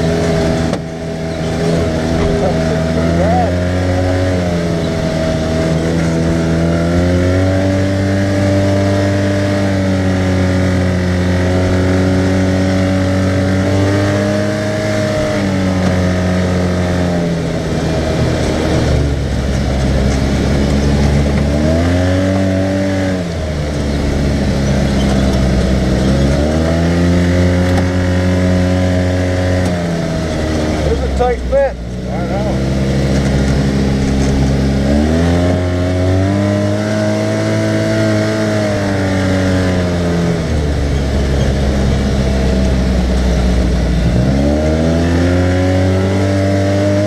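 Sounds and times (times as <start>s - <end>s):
vehicle engine revving: 0.0s - 47.0s.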